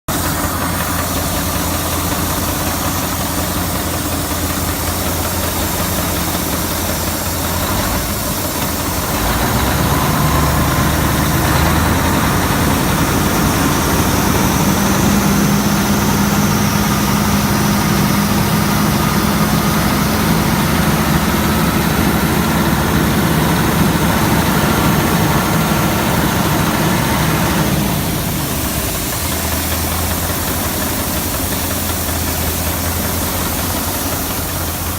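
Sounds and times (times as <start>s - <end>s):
diesel engine idling and revving: 0.1s - 34.9s.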